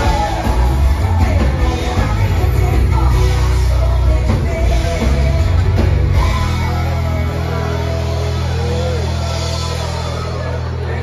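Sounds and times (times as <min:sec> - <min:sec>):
live dance band over a pa: 0:00.0 - 0:11.0.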